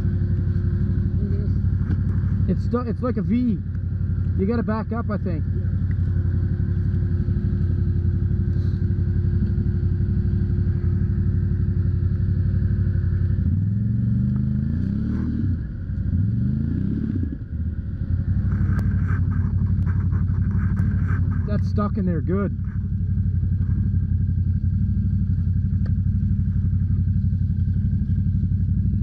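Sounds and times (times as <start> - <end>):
atv engine idling and revving: 0.0 - 29.0.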